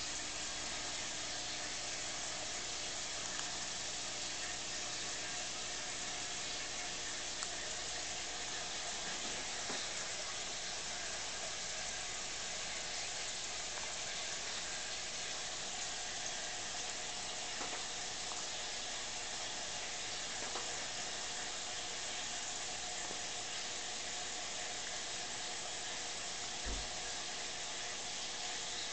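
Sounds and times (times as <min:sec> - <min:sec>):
aquarium water bubbling hiss: 0:00.0 - 0:28.9.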